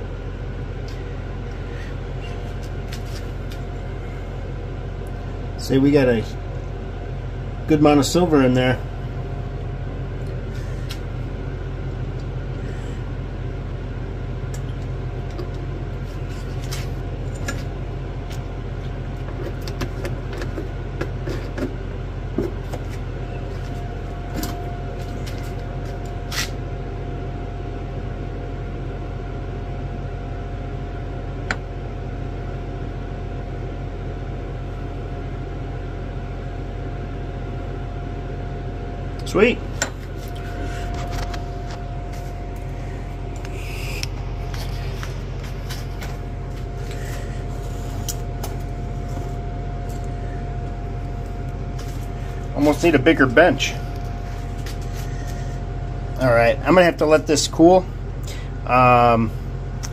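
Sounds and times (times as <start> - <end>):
faint steady whine: 0.0 - 59.9
machine humming: 0.0 - 59.9.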